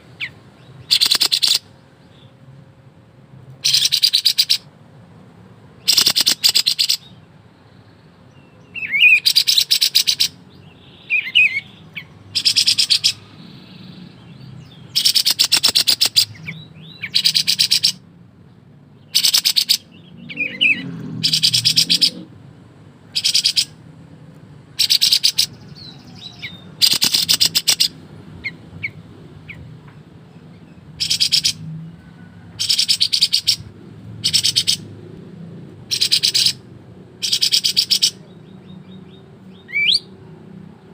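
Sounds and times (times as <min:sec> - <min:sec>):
songbird singing in rattling bursts: 0:00.0 - 0:02.5, 0:03.6 - 0:04.7, 0:05.7 - 0:18.1, 0:18.9 - 0:22.4, 0:23.0 - 0:23.8, 0:24.7 - 0:31.8, 0:32.4 - 0:35.2, 0:35.8 - 0:40.8.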